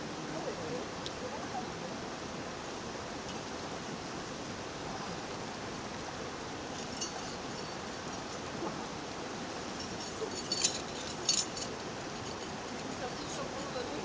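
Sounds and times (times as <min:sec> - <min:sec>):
flowing spring water: 0:00.0 - 0:14.0.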